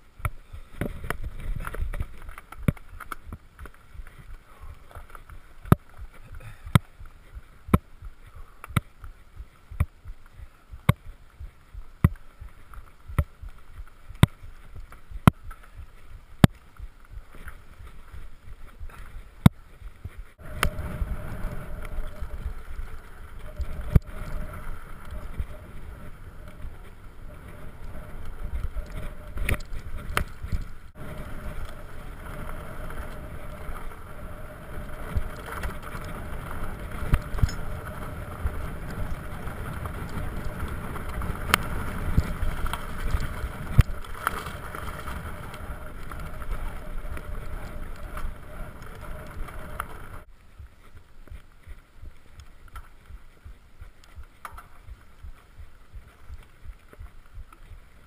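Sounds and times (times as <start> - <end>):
bike tyres rumbling on dirt trail: 0.0 - 58.0
wind on microphone: 0.0 - 58.0.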